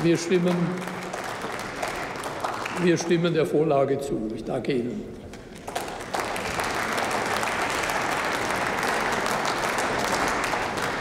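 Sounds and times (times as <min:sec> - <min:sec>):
people applauding: 0:00.0 - 0:03.5, 0:05.3 - 0:11.0.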